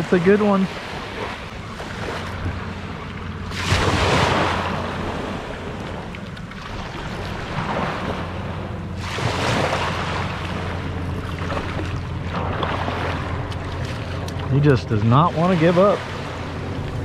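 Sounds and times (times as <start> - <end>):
small surf waves washing ashore: 0.0 - 17.0.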